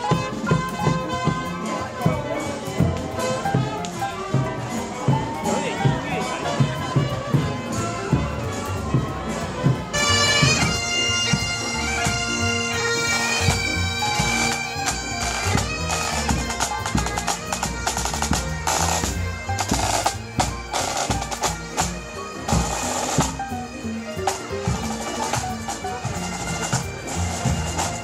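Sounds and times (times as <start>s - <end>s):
marching band melody over drone: 0.0s - 28.0s
snare and bass drum beats: 0.0s - 28.0s.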